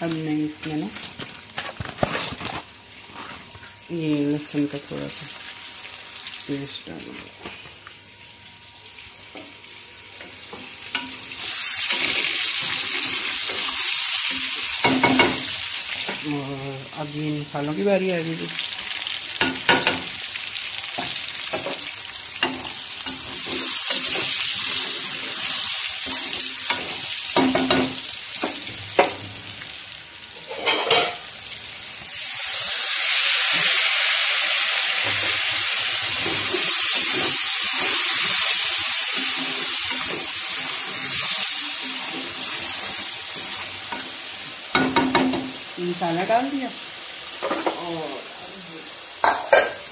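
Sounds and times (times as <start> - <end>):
chicken sizzling in hot oil: 2.3 - 7.1, 8.0 - 49.9.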